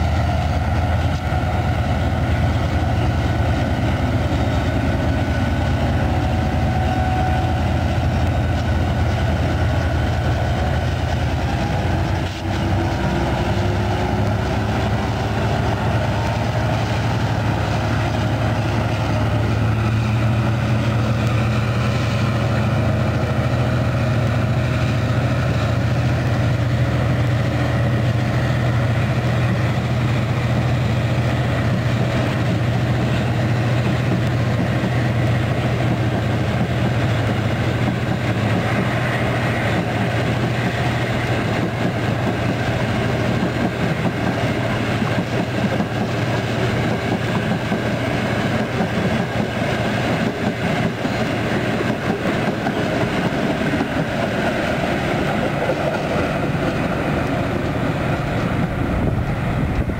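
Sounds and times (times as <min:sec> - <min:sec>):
locomotive low drone: 0:00.0 - 0:59.9
train carriages rolling on rails: 0:00.0 - 0:59.9.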